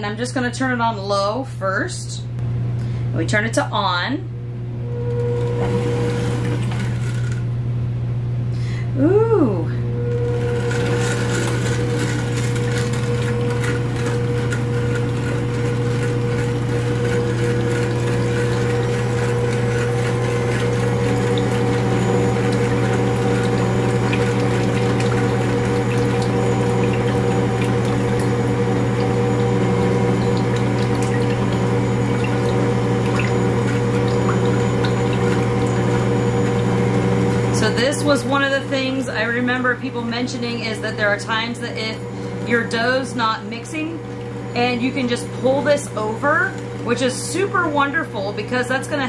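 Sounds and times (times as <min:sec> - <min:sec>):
stand mixer motor humming: 0:04.7 - 0:07.8, 0:09.0 - 0:49.0.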